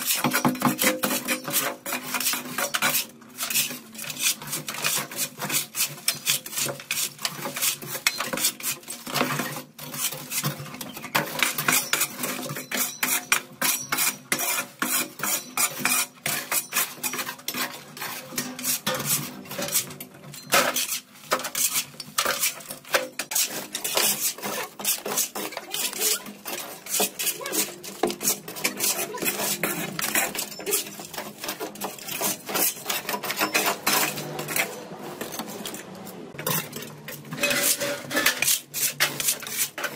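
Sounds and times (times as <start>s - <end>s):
hand tools scraping and clinking: 0.0s - 39.9s.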